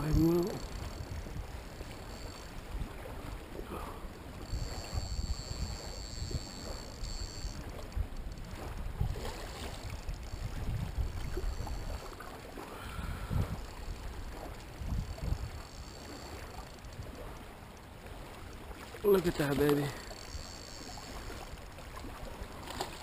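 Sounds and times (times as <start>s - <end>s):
faint high whine: 0.0s - 23.0s
water lapping at boat: 0.0s - 23.0s
wind rumbling on microphone: 0.0s - 23.0s.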